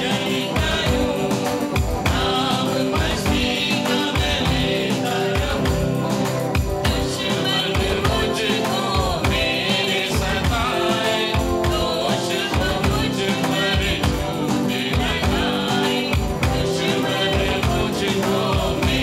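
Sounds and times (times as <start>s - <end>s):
choir singing: 0.0s - 19.0s
electric guitar: 0.0s - 19.0s
steady beat: 0.0s - 19.0s.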